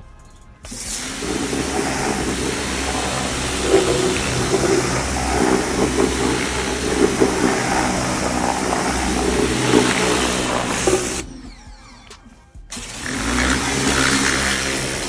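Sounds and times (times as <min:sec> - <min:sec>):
pressure washer jet hissing on metal: 0:00.6 - 0:11.3, 0:12.7 - 0:15.0
pressure washer machine drone: 0:00.6 - 0:15.0.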